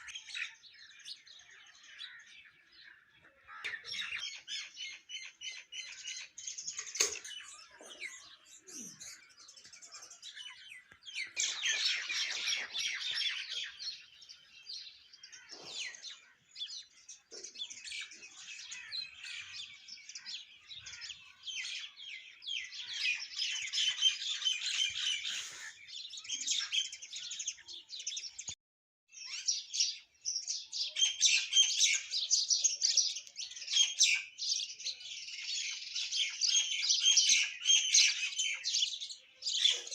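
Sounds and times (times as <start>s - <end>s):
flock of birds chirping and chattering: 0.0s - 39.9s.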